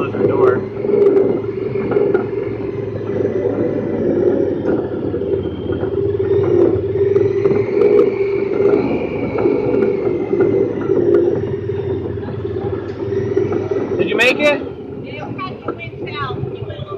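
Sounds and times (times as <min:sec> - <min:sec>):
faint high whine: 0:00.0 - 0:16.9
vehicle engine droning: 0:00.0 - 0:16.9.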